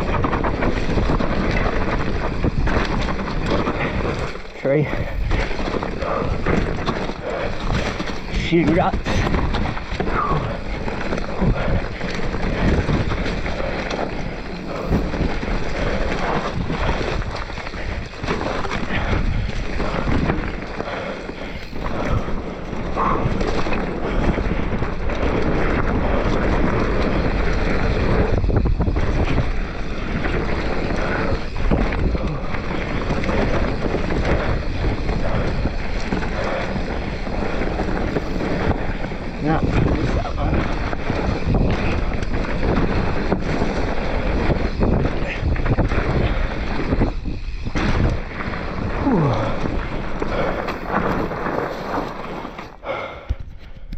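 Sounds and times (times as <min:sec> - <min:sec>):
bike knocking and rattling: 0:00.0 - 0:53.9
tyres on dirt: 0:00.0 - 0:53.9
wind buffeting microphone: 0:00.0 - 0:53.9.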